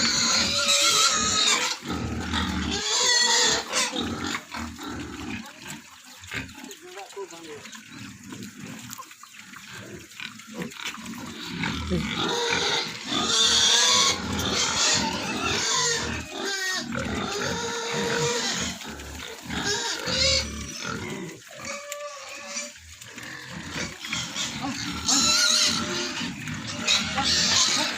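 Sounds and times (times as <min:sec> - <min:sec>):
pigs squealing: 0:00.0 - 0:27.9.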